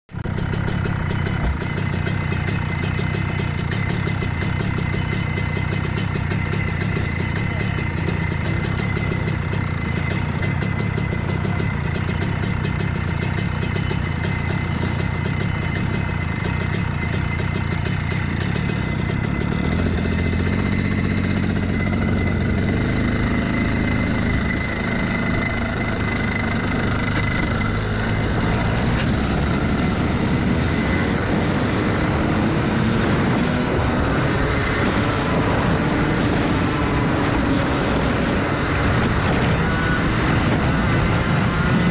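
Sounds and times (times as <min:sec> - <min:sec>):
kart engine idling and revving: 0:00.1 - 0:41.9.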